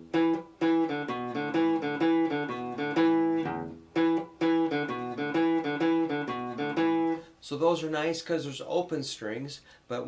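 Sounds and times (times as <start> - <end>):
guitar riff: 0.0 - 8.2.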